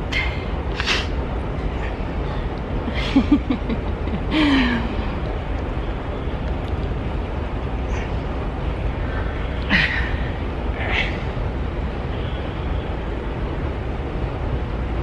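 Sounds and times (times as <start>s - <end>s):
low room rumble: 0.0s - 15.0s.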